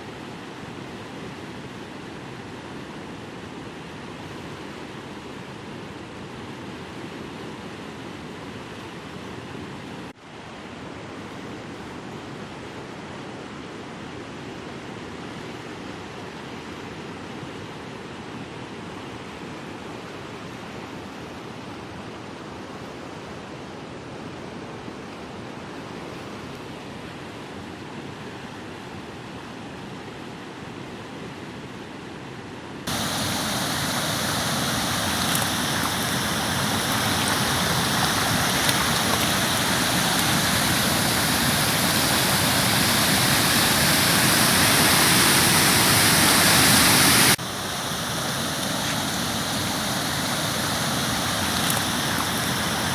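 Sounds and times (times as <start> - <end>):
rain: 0.0 - 52.9
rushing floodwater: 0.0 - 52.9.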